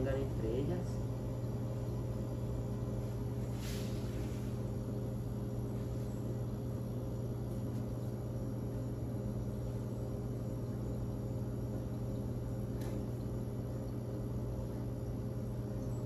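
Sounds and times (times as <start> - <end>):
kitchen equipment hum: 0.0 - 16.0.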